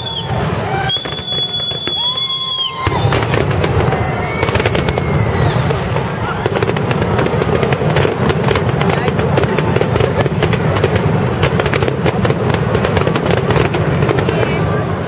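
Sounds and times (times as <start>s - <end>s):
fireworks bursting and crackling: 0.0s - 15.0s
high whistling fireworks: 0.0s - 15.0s.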